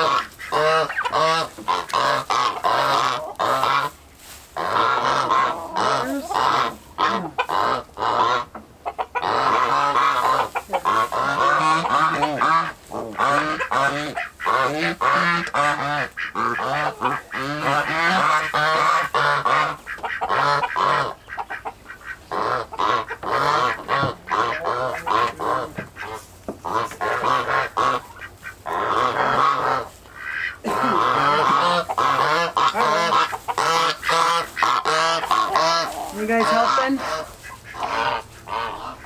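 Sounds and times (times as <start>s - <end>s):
poultry flock calling: 0.0s - 39.0s.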